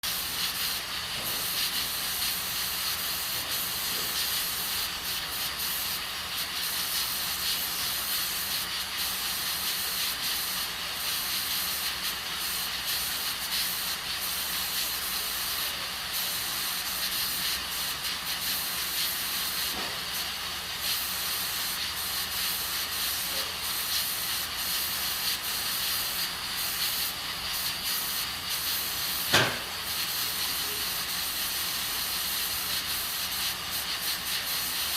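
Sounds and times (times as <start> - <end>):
pressure cooker steam hissing: 0.0 - 34.9.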